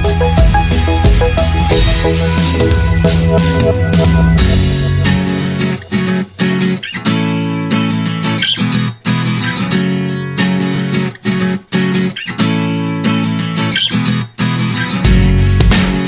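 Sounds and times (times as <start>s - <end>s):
strummed guitar chords: 0.0s - 16.0s.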